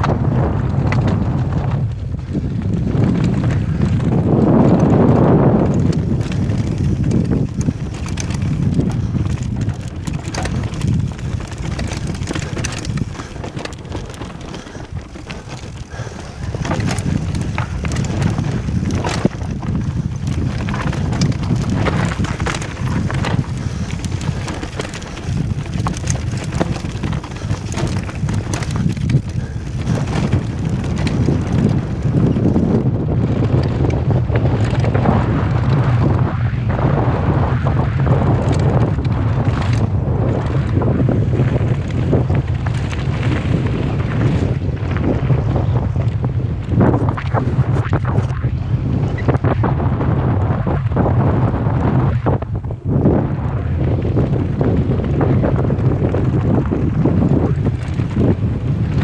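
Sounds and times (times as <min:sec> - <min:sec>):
bike rattling and clacking: 0:00.0 - 0:59.0
wind buffeting microphone: 0:00.0 - 0:59.0.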